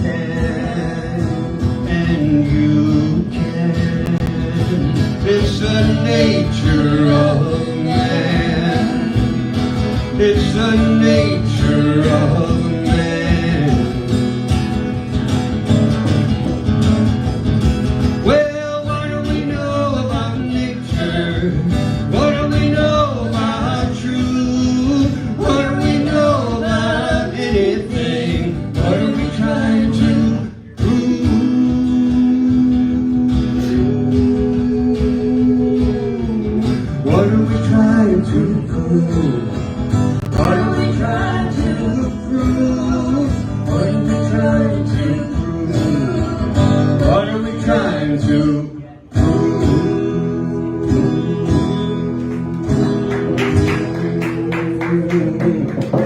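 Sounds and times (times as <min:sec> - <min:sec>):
acoustic guitar accompaniment: 0:00.0 - 0:56.0.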